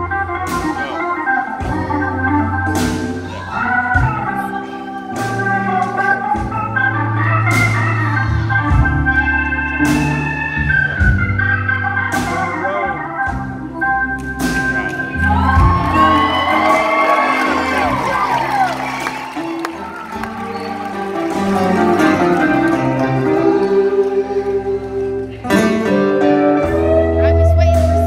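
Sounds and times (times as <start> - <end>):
live band playing: 0.0 - 28.0
organ chords: 0.0 - 28.0.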